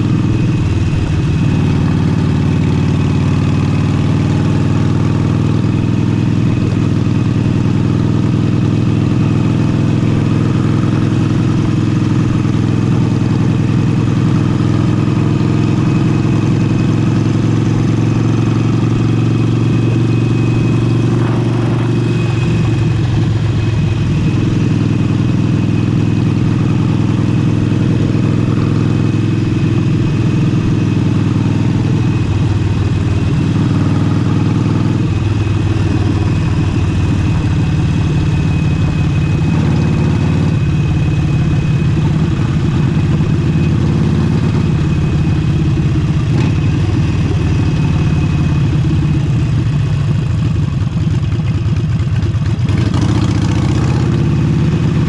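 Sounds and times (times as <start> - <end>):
v-twin motorcycle engine running: 0.0 - 55.0.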